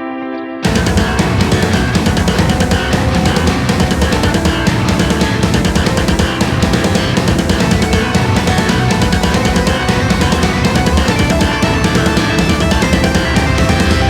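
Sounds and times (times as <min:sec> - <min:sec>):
distorted guitars: 0:00.6 - 0:14.0
fast driving drums: 0:00.6 - 0:14.0.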